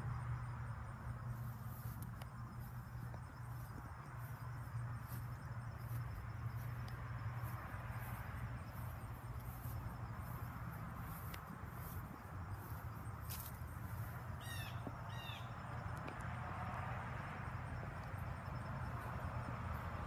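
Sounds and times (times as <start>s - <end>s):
constant low hum: 0.0s - 20.0s
insects trilling: 0.0s - 20.0s.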